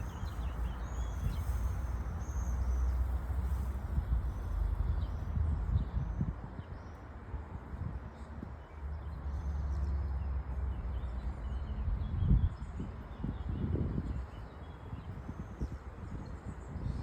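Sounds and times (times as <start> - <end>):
wind buffeting microphone: 0.0 - 8.6, 11.0 - 17.0.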